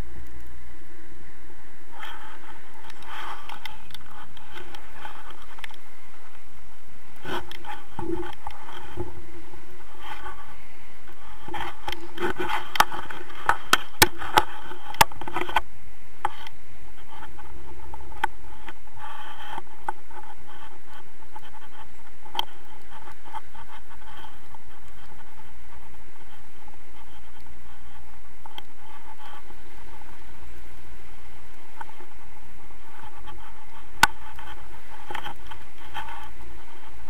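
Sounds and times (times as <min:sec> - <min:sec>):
rushing airflow on microphone: 0:00.0 - 0:37.0.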